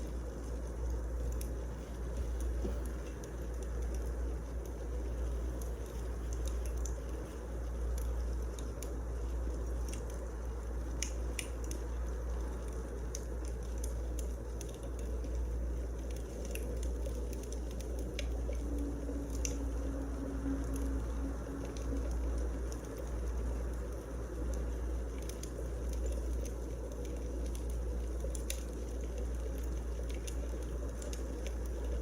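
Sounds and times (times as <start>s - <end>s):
fire flames rumbling: 0.0s - 32.0s
logs crackling and popping: 0.0s - 32.0s.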